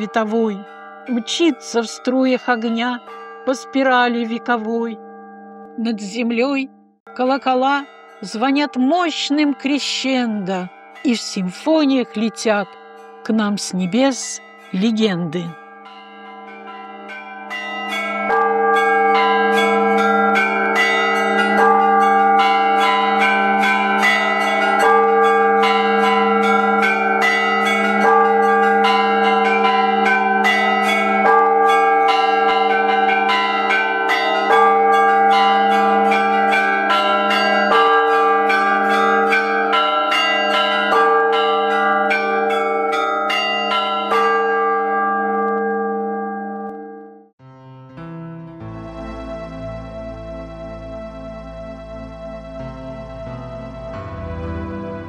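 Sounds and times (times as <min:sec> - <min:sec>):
church bells ringing: 0:00.0 - 0:47.4, 0:48.8 - 0:55.0
large bell humming: 0:00.0 - 0:47.4, 0:48.9 - 0:55.0.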